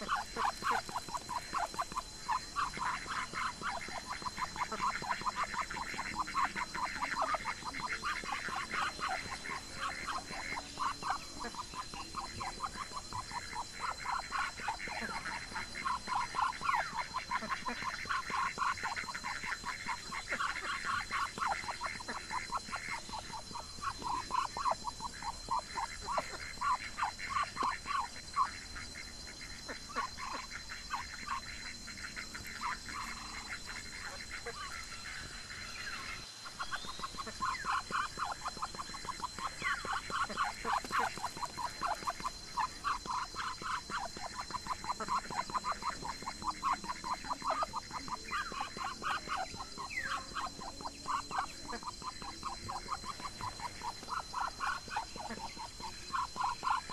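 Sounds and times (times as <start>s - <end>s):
ducks quacking: 0.0s - 56.9s.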